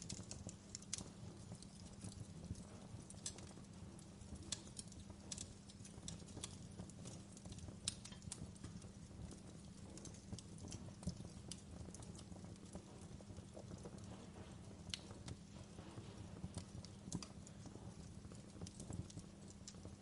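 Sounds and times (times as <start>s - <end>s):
fire crackling with pops: 0.0s - 20.0s.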